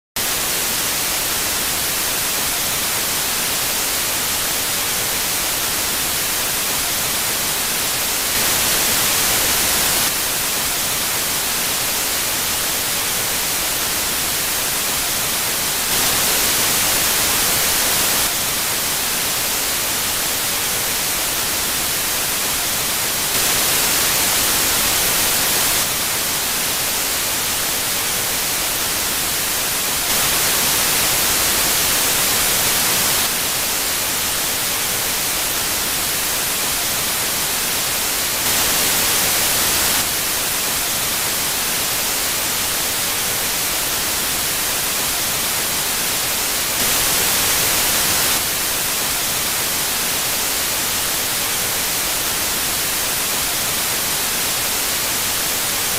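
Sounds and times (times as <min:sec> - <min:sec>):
tv static hiss: 0:00.2 - 0:55.9.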